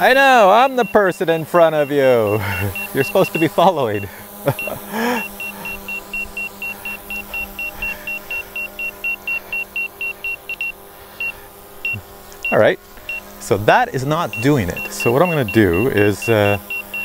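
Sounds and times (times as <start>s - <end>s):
drone propellers whining: 0.0s - 17.0s
rapid high-pitched beeping: 0.0s - 17.0s.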